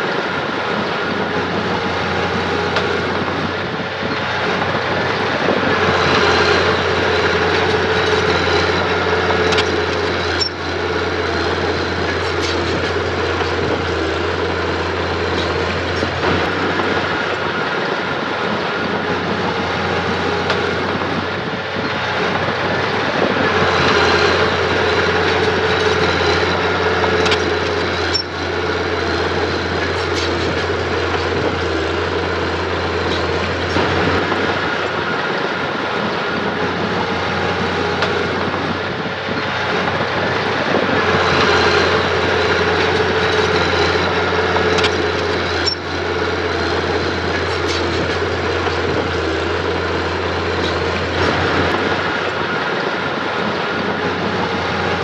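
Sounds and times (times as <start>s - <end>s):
heavy machinery engine running: 0.0s - 55.0s.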